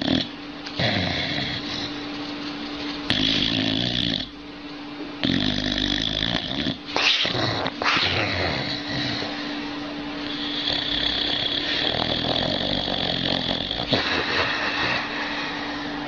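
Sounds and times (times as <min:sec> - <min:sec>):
dog snoring: 0:00.0 - 0:02.0, 0:03.0 - 0:04.4, 0:05.2 - 0:16.0.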